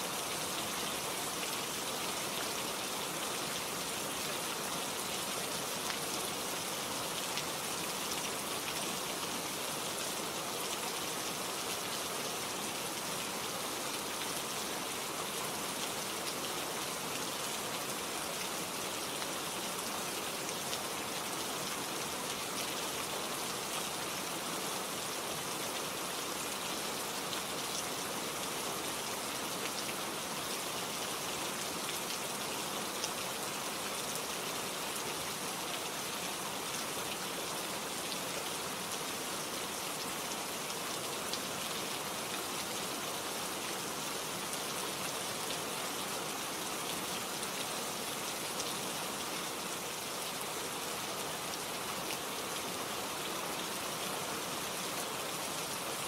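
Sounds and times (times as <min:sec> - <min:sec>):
rain patter on leaves: 0:00.0 - 0:56.0.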